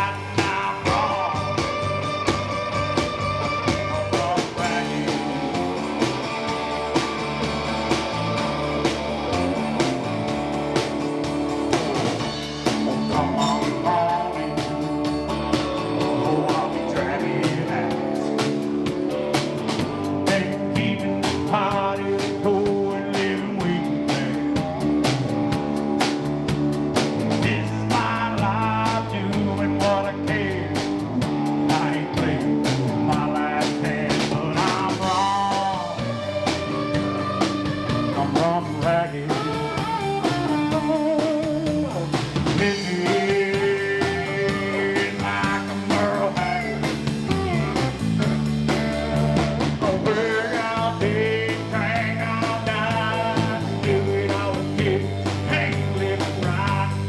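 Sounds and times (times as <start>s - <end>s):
lead guitar or singing: 0.0s - 57.0s
rock band playing live: 0.0s - 57.0s.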